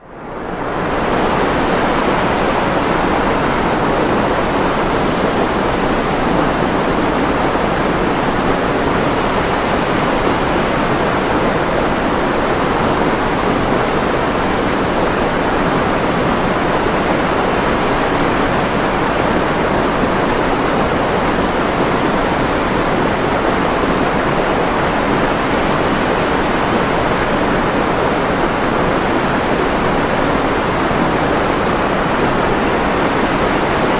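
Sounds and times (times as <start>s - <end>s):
steady white noise hiss: 0.0s - 33.9s.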